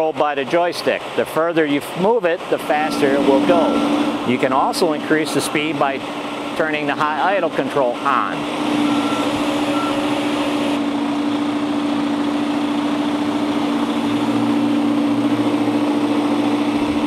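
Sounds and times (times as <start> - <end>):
hydrostatic drive whine: 0.0 - 17.0
truck engine running: 0.0 - 17.0.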